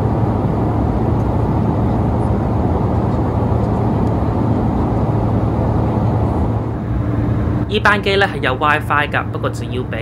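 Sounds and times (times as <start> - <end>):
airflow and engine noise: 0.0 - 10.0
constant low hum: 0.0 - 10.0.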